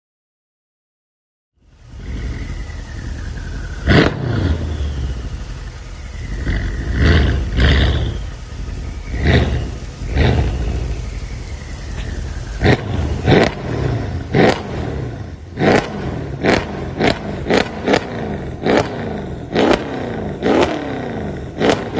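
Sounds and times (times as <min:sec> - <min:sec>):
car engine revving: 0:01.6 - 0:21.9
exhaust cracks: 0:01.7 - 0:21.9.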